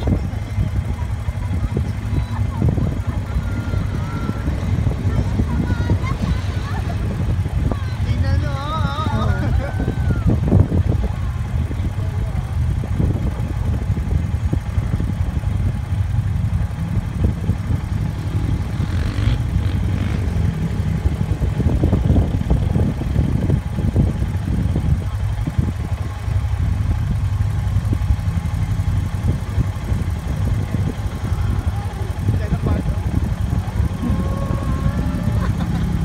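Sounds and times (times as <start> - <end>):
off-road vehicle engines rumbling: 0.0 - 36.0.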